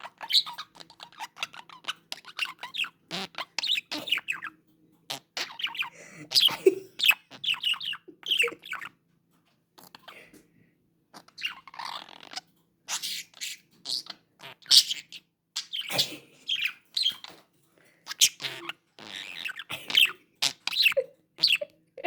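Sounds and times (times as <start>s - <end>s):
budgerigar chirping: 0.0s - 8.9s, 11.2s - 17.4s, 18.1s - 21.7s.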